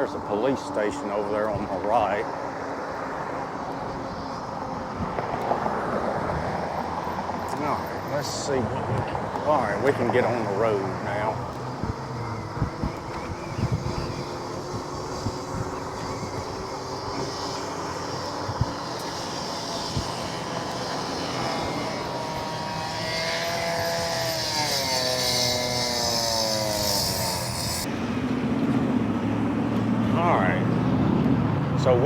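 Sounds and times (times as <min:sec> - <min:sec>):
motor vehicle passing: 0:00.0 - 0:32.0
wind and road noise: 0:00.0 - 0:32.0.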